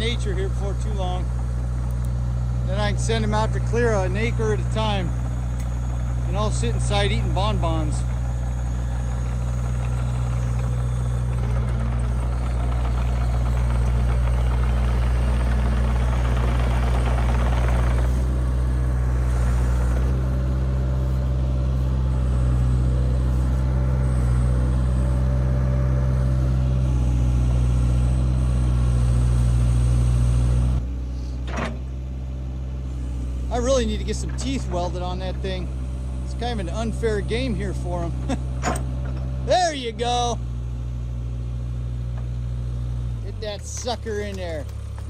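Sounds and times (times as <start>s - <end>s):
diesel engine running: 0.0s - 45.0s
rough rasping engine noise: 0.0s - 45.0s.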